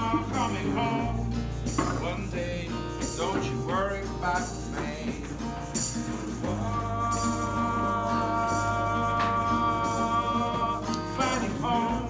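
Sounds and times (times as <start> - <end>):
live acoustic band music: 0.0 - 12.0
person singing: 0.0 - 12.0
shaker rattle: 0.0 - 12.0.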